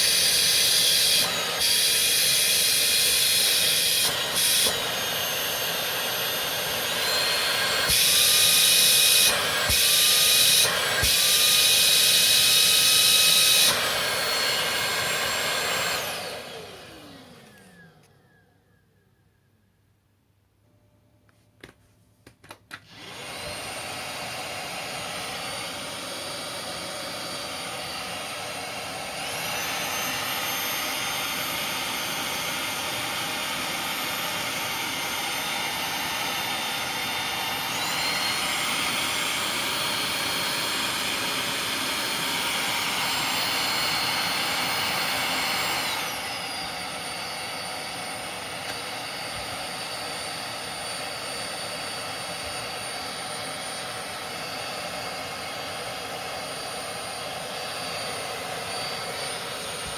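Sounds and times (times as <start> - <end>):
vacuum motor whine: 0.0 - 19.0, 22.8 - 59.9.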